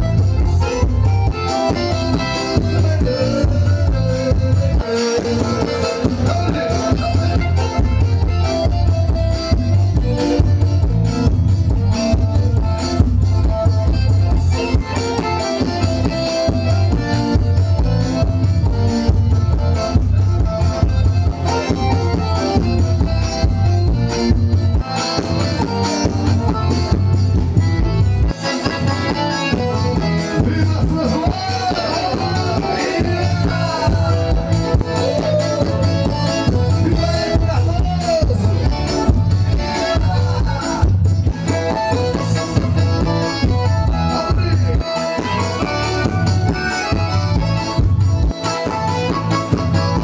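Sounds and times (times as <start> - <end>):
accordion: 0.0 - 50.0
steady drum beat: 0.0 - 50.0.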